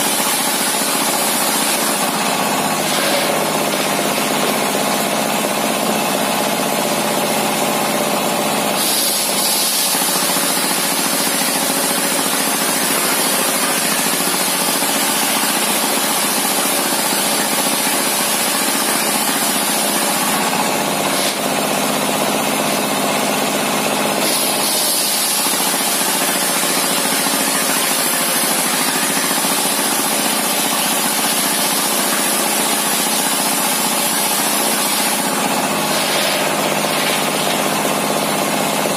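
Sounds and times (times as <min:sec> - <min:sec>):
circular saw blade cutting wood: 0:00.0 - 0:06.0, 0:08.8 - 0:21.6, 0:24.1 - 0:38.6
diesel engine running: 0:00.0 - 0:38.9.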